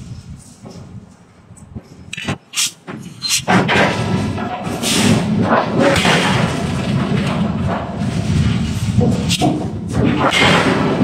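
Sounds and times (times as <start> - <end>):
metal clanks and thuds: 0.4 - 11.0
loud continuous metal clatter: 1.8 - 11.0.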